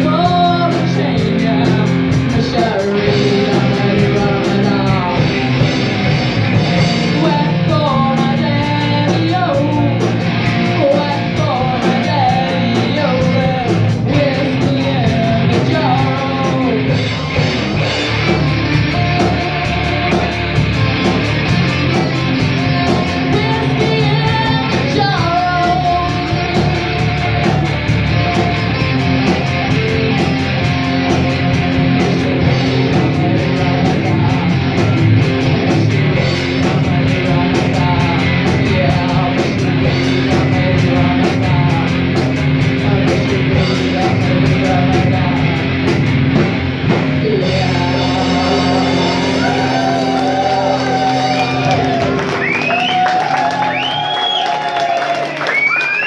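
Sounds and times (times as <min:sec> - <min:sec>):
woman singing lead: 0:00.0 - 0:17.4, 0:22.0 - 0:30.7, 0:31.4 - 0:55.2
live rock band playing: 0:00.0 - 0:56.0.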